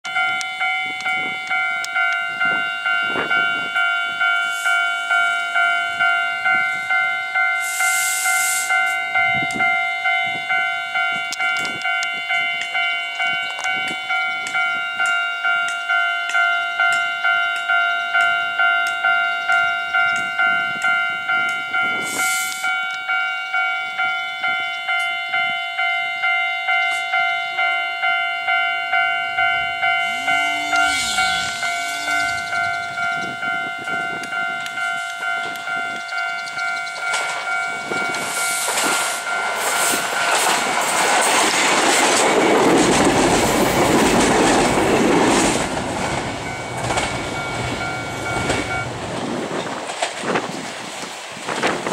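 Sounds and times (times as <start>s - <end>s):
level crossing warning bell: 0.0s - 49.7s.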